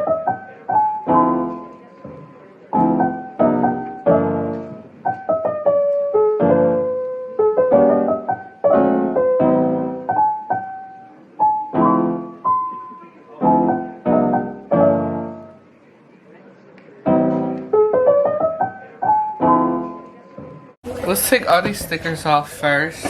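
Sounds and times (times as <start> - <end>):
piano music: 0.0 - 15.8, 17.0 - 23.0.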